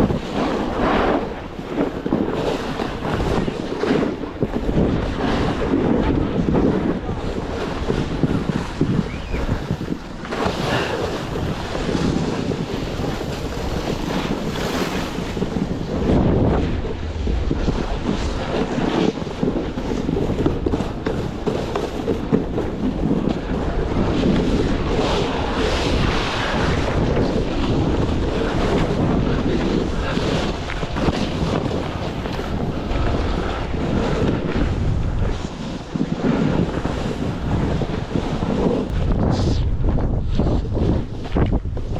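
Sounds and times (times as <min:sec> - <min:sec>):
wind gusting over microphone: 0:00.0 - 0:41.9.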